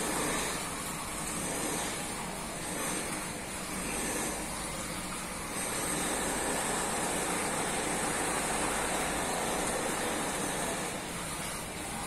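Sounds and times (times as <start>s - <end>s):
aquarium filter hiss: 0.0s - 12.0s.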